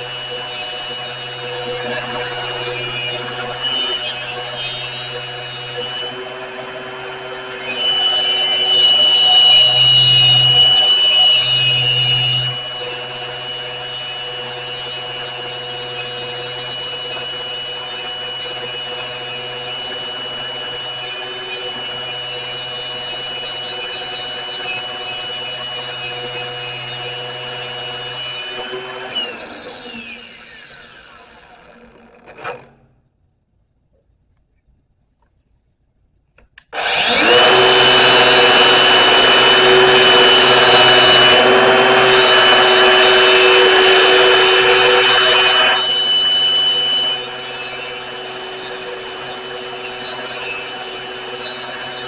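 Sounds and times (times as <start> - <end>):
electric grinder grinding steel: 0.0 - 32.8, 36.7 - 52.0
grinder motor winding down: 0.0 - 32.9, 36.7 - 52.0.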